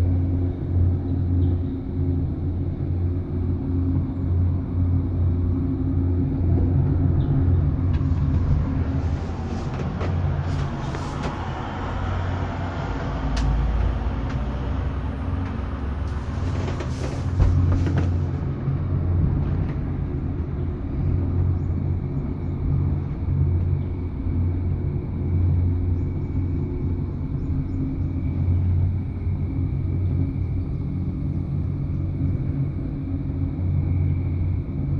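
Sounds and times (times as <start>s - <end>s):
cable car rumble: 0.0s - 34.9s.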